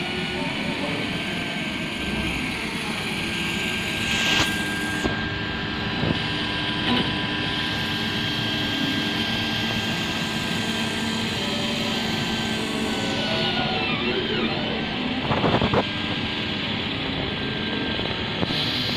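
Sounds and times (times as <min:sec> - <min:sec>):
three d printer whirring: 0:00.0 - 0:18.9.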